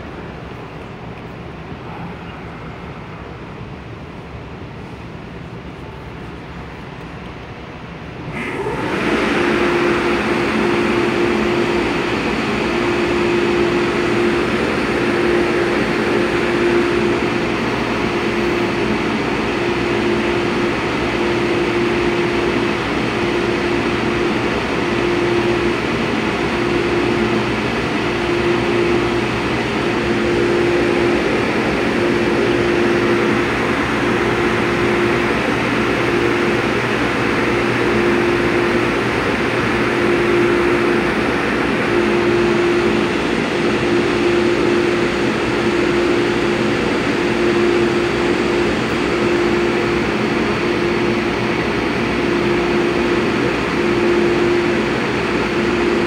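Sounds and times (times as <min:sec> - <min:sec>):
steady hum: 0:00.0 - 0:56.0
train running rumble: 0:00.0 - 0:56.0.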